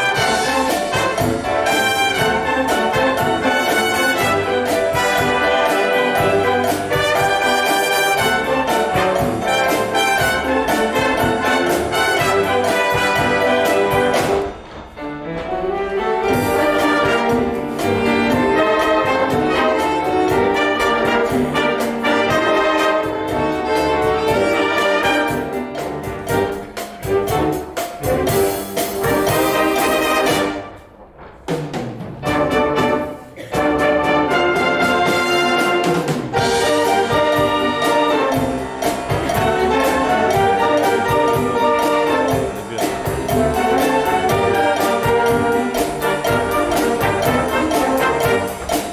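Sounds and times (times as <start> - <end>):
concert wind band playing: 0.0 - 31.0, 32.2 - 48.9
brass instruments: 0.0 - 48.9.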